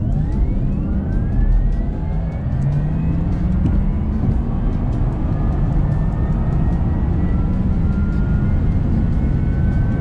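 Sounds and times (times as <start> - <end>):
sports car engine accelerating: 0.0 - 10.0
thin rising whine: 0.0 - 10.0.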